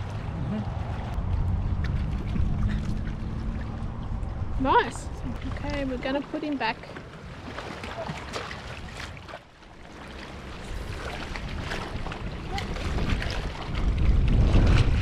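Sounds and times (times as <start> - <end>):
wind buffeting microphone: 0.0 - 9.4, 10.1 - 15.0
river waves lapping on rocks: 1.8 - 15.0.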